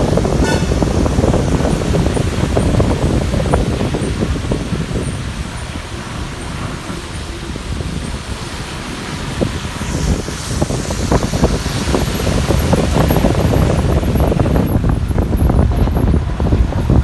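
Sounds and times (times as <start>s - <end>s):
bus engine and road noise: 0.0s - 17.0s
wind rumble: 0.0s - 17.0s.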